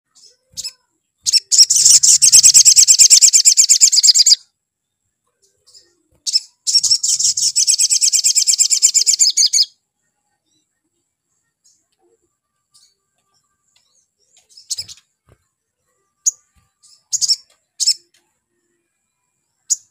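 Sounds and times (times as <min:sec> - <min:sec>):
sunbird singing: 0:00.1 - 0:15.1, 0:15.8 - 0:19.9.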